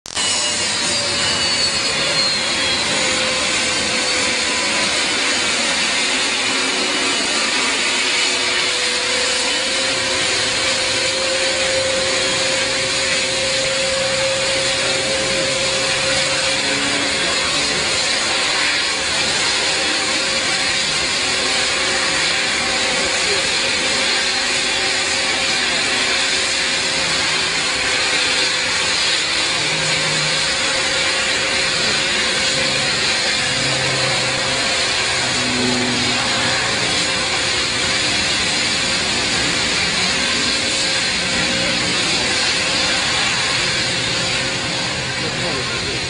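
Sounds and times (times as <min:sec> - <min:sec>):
jet aircraft engines running: 0:00.0 - 0:46.0.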